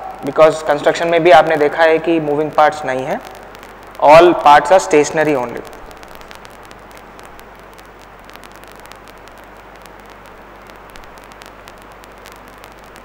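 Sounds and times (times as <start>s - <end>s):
low electrical hum: 0.0s - 13.0s
steady hiss: 0.0s - 13.0s
faint clicks and crackles: 0.1s - 13.0s.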